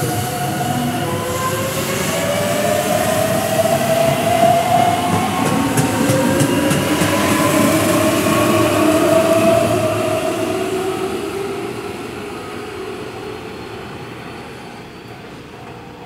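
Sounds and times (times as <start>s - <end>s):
rail and wheel noise: 0.0s - 16.0s.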